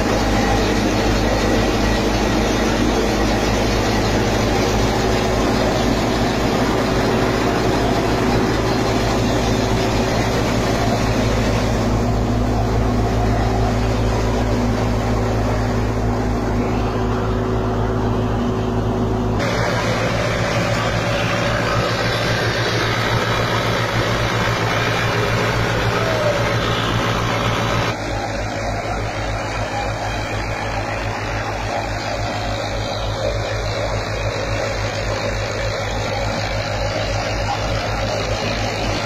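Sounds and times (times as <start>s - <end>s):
tractor engine hum: 0.0s - 39.0s
wheat thresher running: 0.0s - 39.0s.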